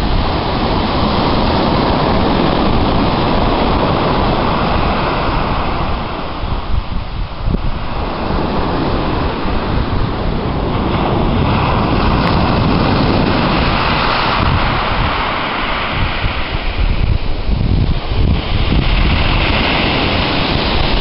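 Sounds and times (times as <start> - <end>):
wave washing over shingle: 0.0 - 21.0
wind buffeting microphone: 0.0 - 21.0.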